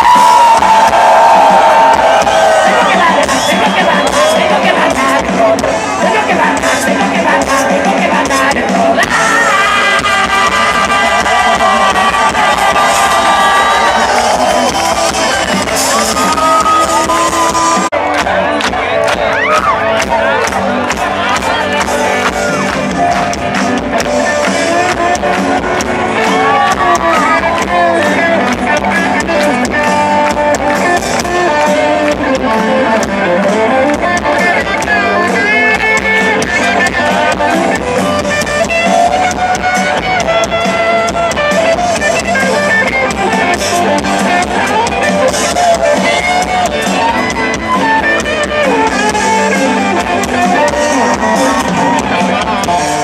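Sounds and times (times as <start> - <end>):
electric guitar lead line: 0.0 - 53.0
rock band playing live: 0.0 - 53.0.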